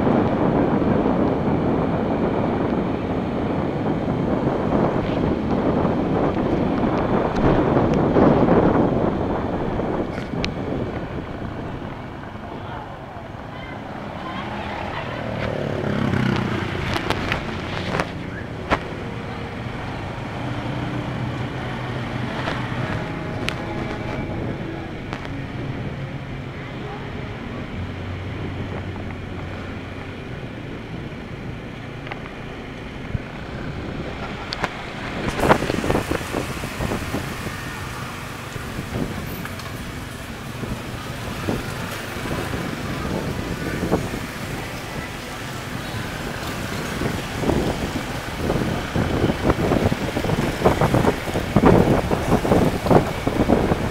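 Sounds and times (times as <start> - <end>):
street traffic: 0.0 - 53.9
wind and road noise: 0.0 - 53.9.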